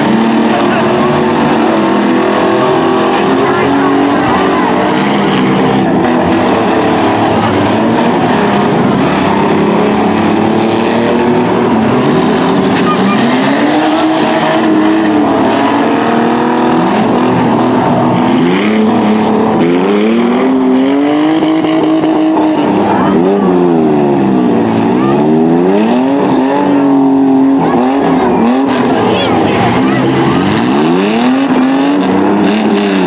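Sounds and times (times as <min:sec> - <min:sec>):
truck engines revving: 0:00.0 - 0:33.0.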